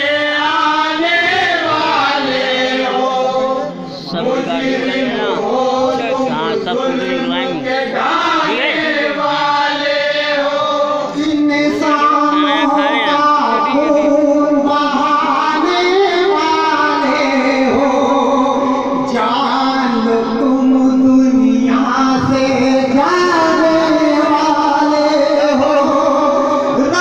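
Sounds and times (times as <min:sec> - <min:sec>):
man singing into a microphone: 0:00.0 - 0:09.2, 0:10.3 - 0:27.0.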